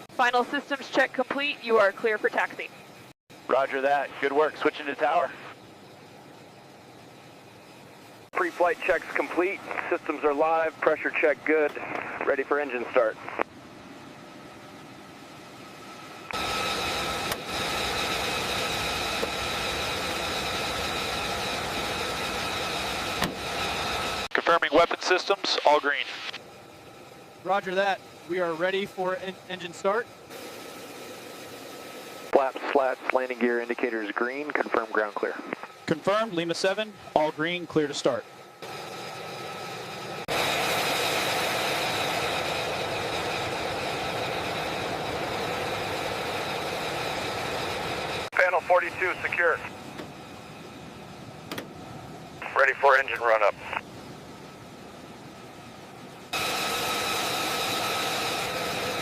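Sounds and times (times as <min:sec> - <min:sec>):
jet engine roaring with whine: 0:00.0 - 0:59.0.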